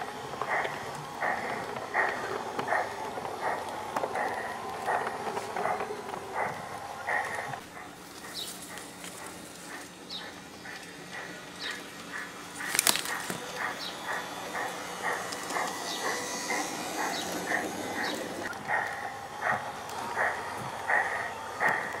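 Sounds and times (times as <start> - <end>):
sharp track clack: 0.0 - 7.6, 11.1 - 22.0
model train rhythmic clicking: 0.0 - 22.0.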